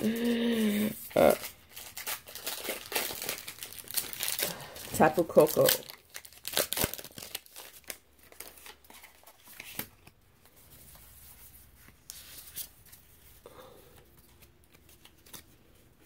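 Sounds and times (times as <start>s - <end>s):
cards and wrappers rustling: 0.0s - 16.0s.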